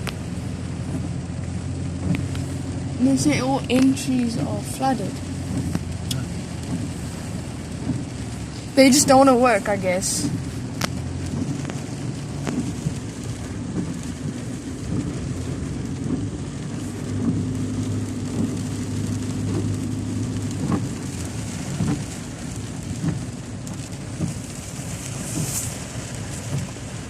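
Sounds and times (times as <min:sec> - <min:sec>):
steady rain: 0:00.0 - 0:27.0
vehicle engine humming: 0:00.0 - 0:27.0.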